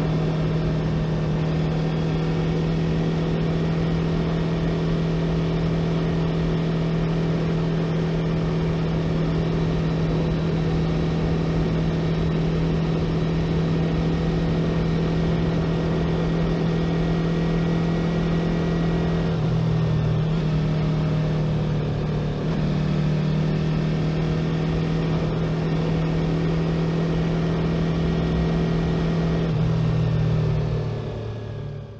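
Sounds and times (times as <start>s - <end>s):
motorcycle engine cruising: 0.0s - 31.9s
wind and road rush: 0.0s - 31.9s.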